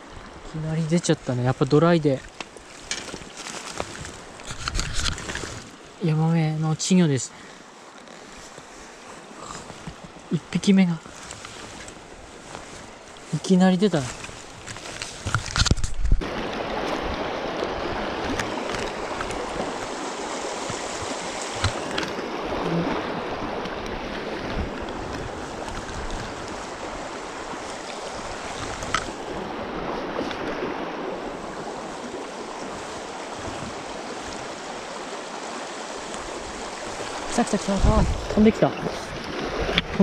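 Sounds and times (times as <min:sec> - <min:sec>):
stream running over stones: 0:00.0 - 0:40.0.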